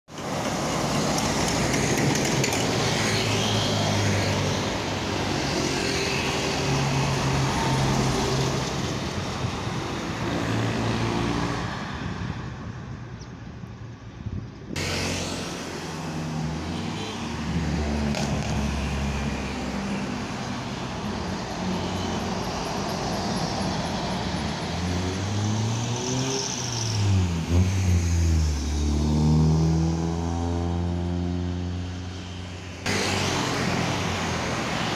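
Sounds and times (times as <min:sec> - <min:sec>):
road traffic passing: 0:00.1 - 0:34.9.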